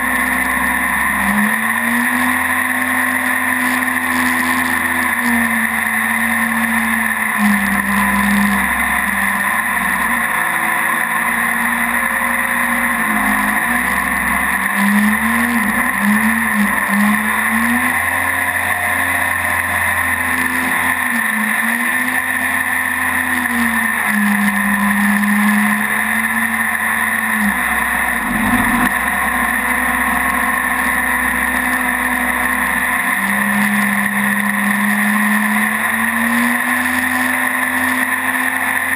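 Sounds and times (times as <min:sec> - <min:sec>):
jet boat engine drone: 0:00.0 - 0:38.9.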